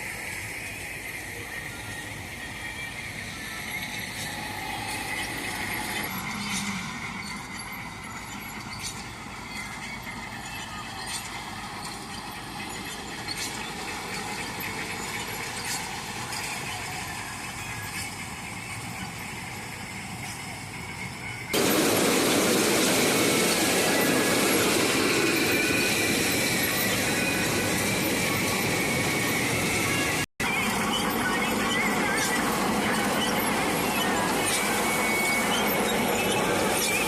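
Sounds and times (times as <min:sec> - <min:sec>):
faint high whine: 0:00.0 - 0:37.0
harvesting machine running: 0:00.0 - 0:37.0.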